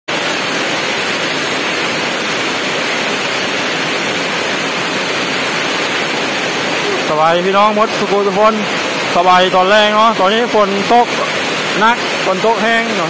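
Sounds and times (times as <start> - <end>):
heavy rain pouring: 0.1 - 13.0.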